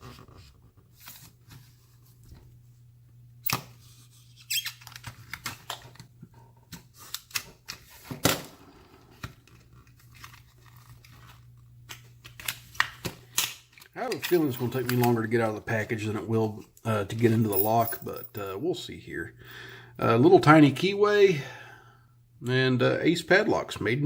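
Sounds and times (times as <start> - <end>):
faint steady hum: 0.1 - 24.0.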